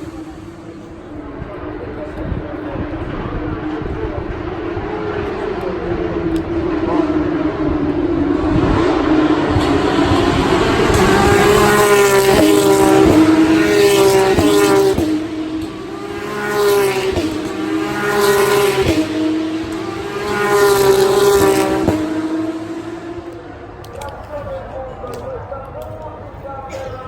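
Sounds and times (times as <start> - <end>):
racing car engine accelerating: 0.0 - 24.2.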